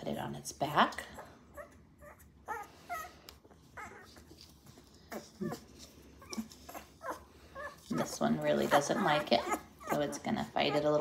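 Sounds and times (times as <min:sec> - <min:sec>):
puppy whimpering: 0:01.2 - 0:11.0.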